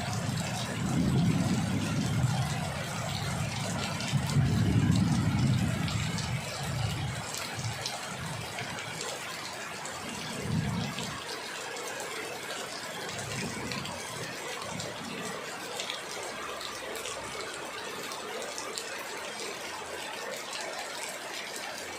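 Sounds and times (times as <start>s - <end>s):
heavy rain: 0.0s - 21.9s.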